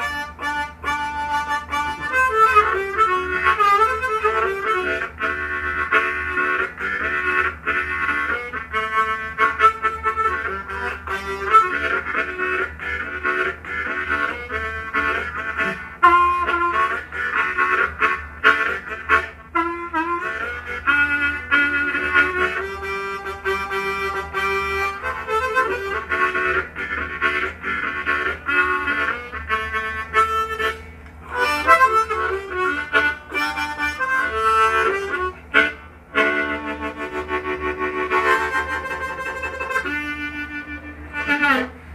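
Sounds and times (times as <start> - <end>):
blues harmonica playing: 0.0 - 41.9.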